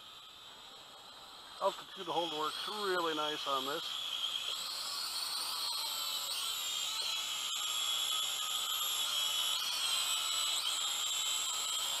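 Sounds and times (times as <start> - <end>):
quadcopter hovering whine: 0.0 - 12.0.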